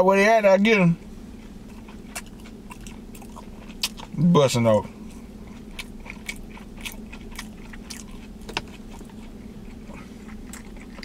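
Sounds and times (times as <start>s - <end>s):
steady low hum: 0.0s - 11.0s
person chewing with wet smacking: 1.4s - 4.3s, 5.0s - 11.0s.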